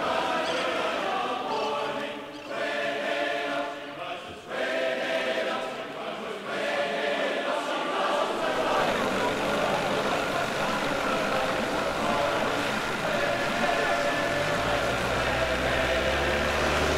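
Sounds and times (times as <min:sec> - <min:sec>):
choir singing sustained notes: 0:00.0 - 0:16.9.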